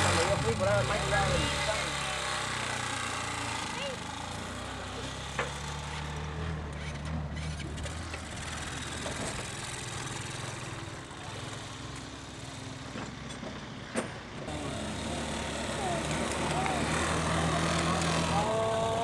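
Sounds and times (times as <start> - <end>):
quad bike engine rolling past: 0.0 - 19.0.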